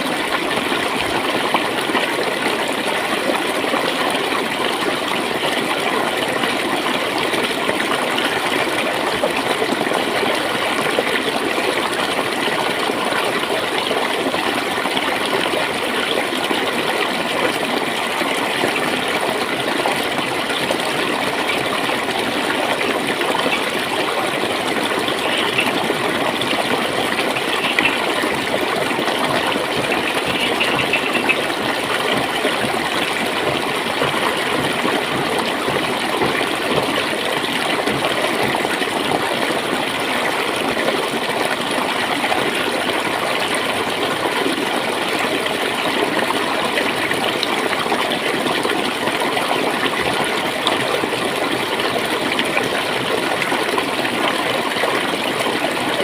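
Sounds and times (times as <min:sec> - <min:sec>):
water flowing and gurgling: 0:00.0 - 0:56.0.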